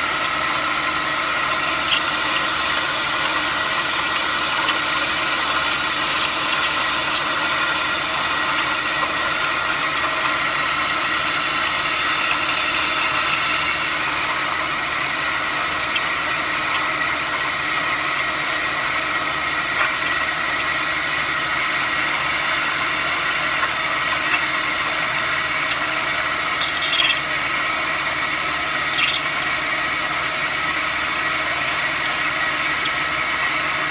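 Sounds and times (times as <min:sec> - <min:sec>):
mechanical running noise: 0:00.0 - 0:33.9.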